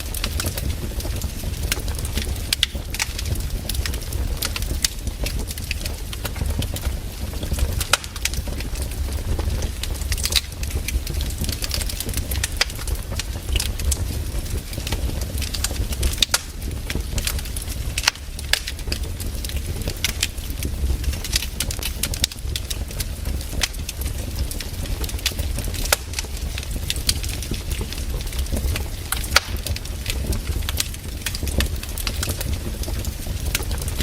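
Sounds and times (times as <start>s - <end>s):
firewood crackling: 0.0s - 34.0s.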